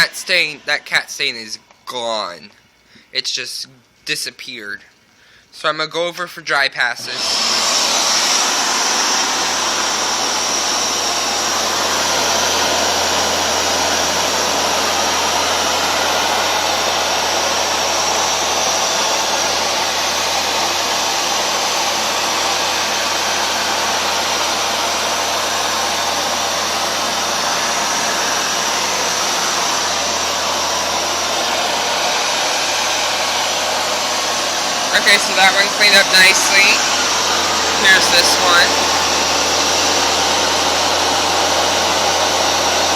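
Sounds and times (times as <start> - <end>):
carpet washer suction motor: 0.0 - 1.1, 7.0 - 42.9.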